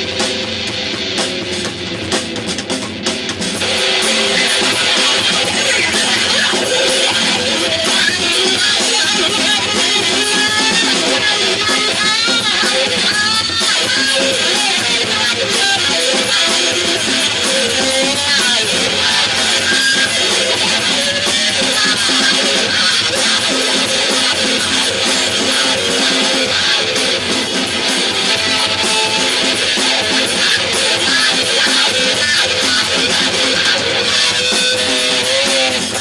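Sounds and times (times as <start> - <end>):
loud strummed guitar: 0.0 - 36.0.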